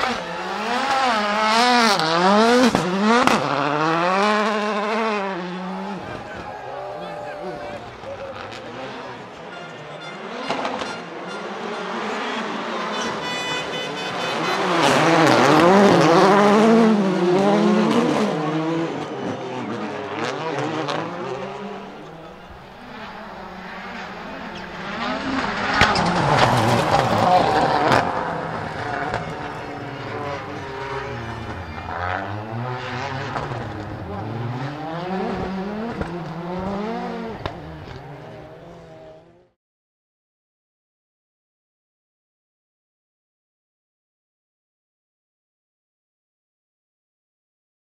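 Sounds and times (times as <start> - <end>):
rally car engines revving hard: 0.0 - 39.6.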